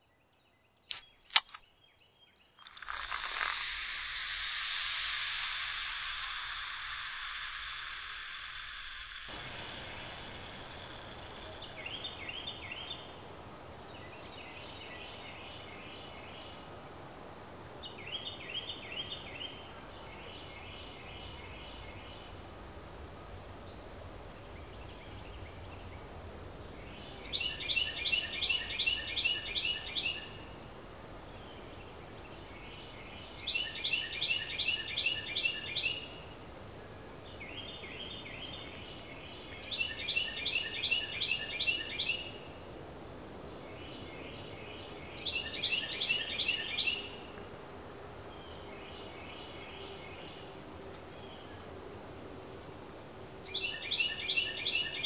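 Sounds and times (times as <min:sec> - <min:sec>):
songbird singing: 0:00.0 - 0:16.9, 0:17.7 - 0:47.6, 0:48.2 - 0:52.8, 0:53.4 - 0:55.0
outdoor background noise: 0:00.0 - 0:55.0.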